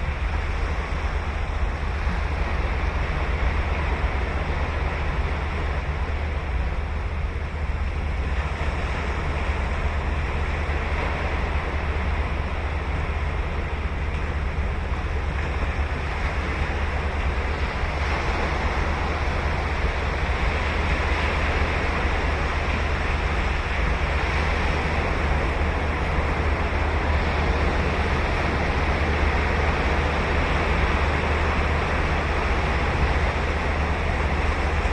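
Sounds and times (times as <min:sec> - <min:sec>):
ocean surf breaking on beach: 0:00.0 - 0:34.9.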